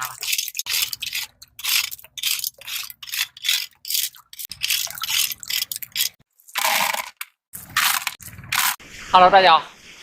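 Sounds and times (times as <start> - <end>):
rake scraping over shells and rock: 0.7 - 8.9.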